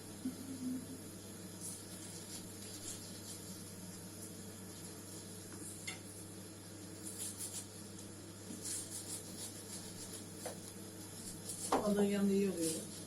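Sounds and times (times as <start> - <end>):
range hood fan humming: 0.0 - 13.0.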